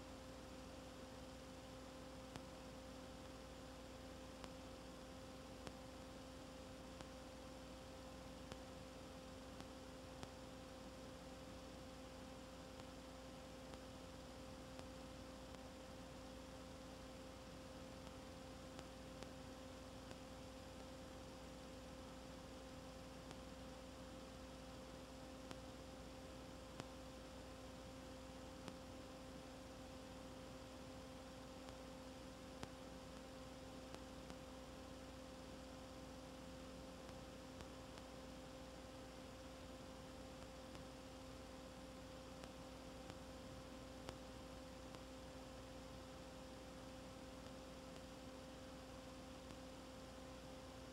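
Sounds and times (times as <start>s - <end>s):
low electrical hum: 0.0s - 50.9s
faint ticks: 0.7s - 50.9s.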